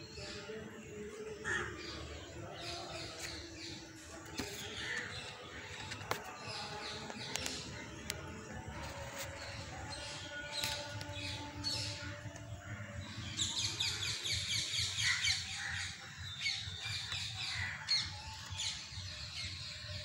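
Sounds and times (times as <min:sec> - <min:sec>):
birds chirping and squawking: 0:00.0 - 0:20.0.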